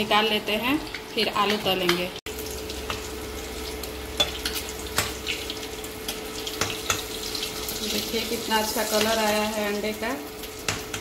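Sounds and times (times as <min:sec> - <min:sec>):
eggs frying in hot oil: 0:00.0 - 0:11.0.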